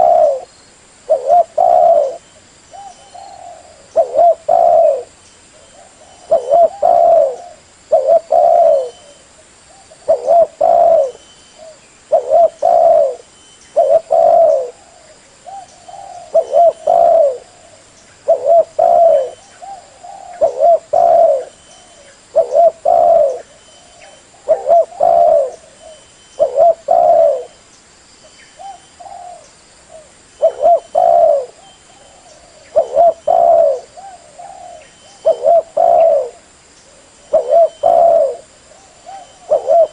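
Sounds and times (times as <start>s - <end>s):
dove cooing: 0.0s - 0.5s, 1.1s - 27.6s, 28.6s - 39.9s.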